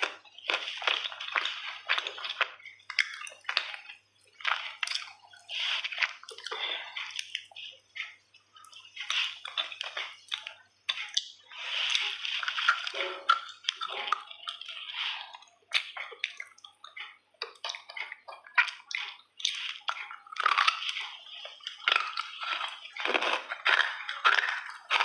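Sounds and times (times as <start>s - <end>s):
crunching and chewing clay: 0.0s - 25.0s.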